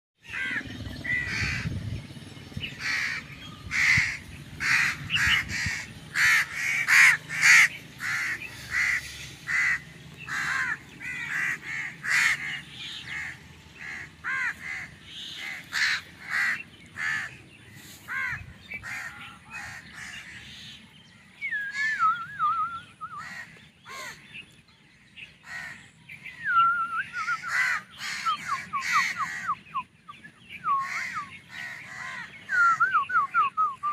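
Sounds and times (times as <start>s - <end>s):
warbling bird song: 0.2s - 33.9s
short harsh bird calls: 2.7s - 24.5s, 25.4s - 33.9s.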